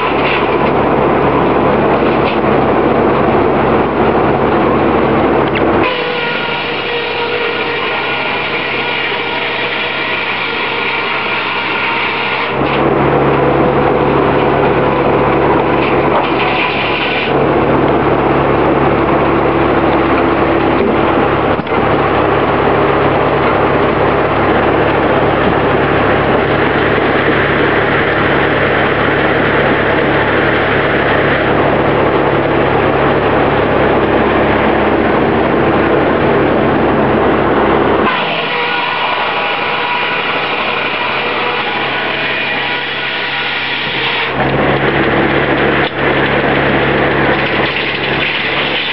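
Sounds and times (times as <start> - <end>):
circular sawmill cutting a log: 0.0 - 48.9.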